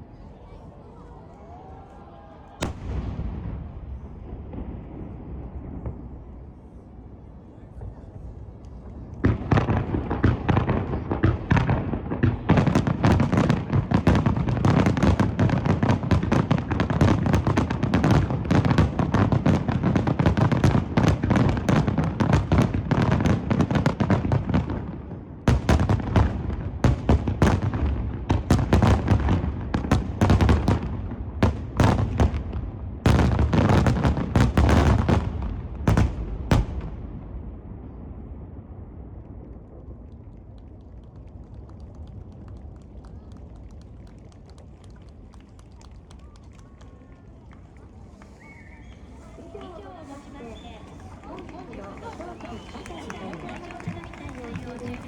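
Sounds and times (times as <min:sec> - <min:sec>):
fireworks bursting: 0:02.6 - 0:40.2, 0:48.0 - 0:55.0.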